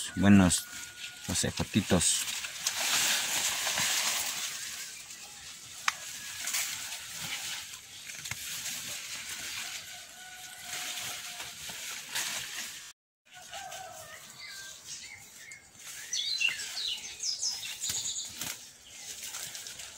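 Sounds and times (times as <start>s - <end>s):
plants rustling and crackling: 0.0s - 19.9s.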